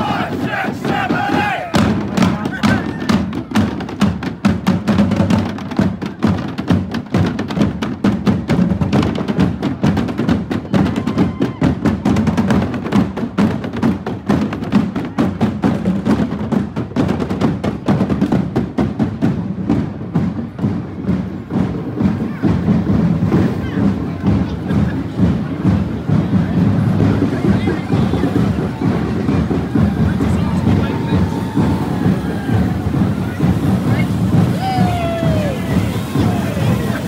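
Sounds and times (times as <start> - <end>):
marching band drumming: 0.0 - 37.0.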